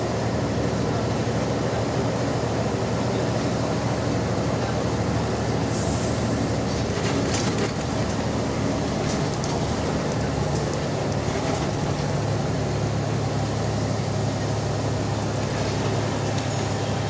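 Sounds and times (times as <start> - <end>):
bus engine with raspy exhaust: 0.0 - 17.0.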